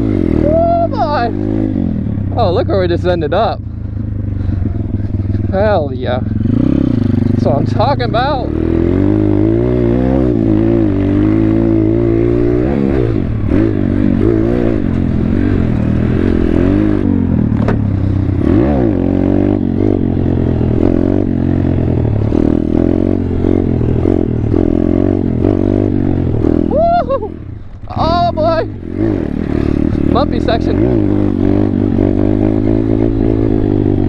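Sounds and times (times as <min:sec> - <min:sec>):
pit bike engine revving: 0:00.0 - 0:34.0.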